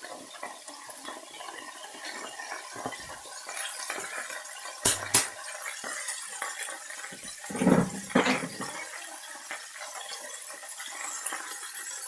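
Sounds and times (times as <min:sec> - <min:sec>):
chicken frying in oil sizzling: 0:00.0 - 0:12.0.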